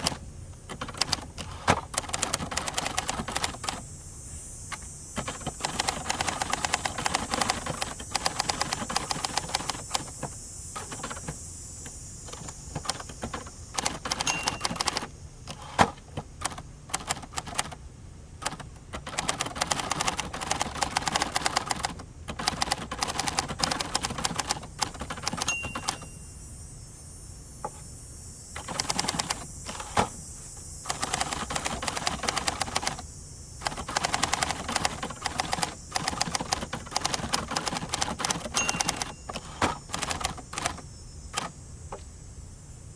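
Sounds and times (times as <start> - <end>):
typewriter keystrokes: 0.0 - 3.8, 4.7 - 11.4, 12.3 - 17.8, 18.4 - 26.2, 28.6 - 30.2, 30.9 - 33.0, 33.6 - 41.5.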